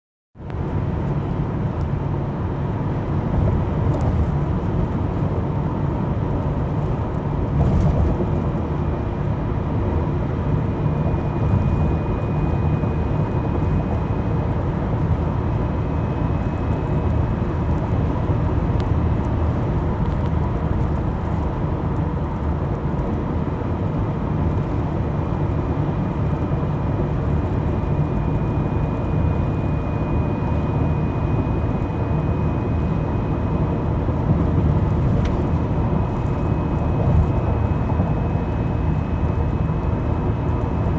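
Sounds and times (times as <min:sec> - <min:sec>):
vehicle engine rumbling: 0:00.4 - 0:40.9.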